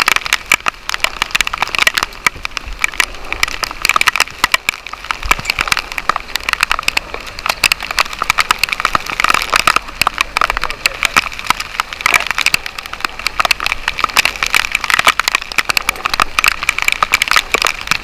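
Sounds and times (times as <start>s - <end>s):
rain pelting microphone: 0.0s - 18.0s.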